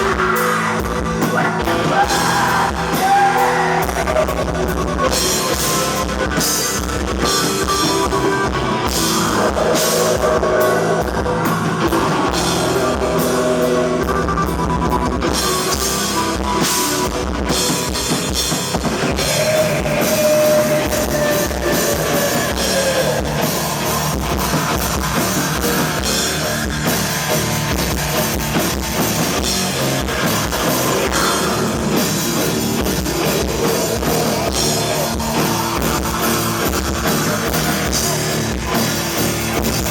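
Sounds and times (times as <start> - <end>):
distorted guitar: 0.0 - 39.9
fast drum kit: 0.0 - 39.9.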